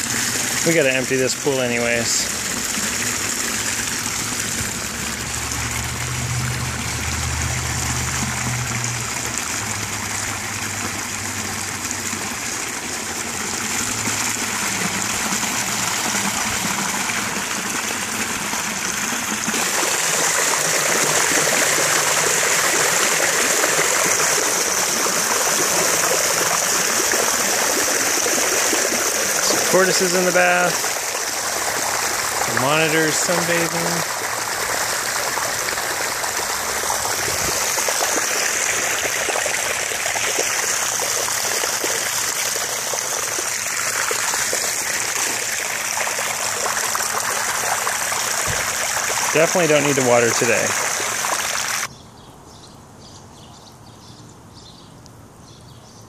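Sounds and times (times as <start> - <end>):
water pouring onto grass: 0.0 - 51.9.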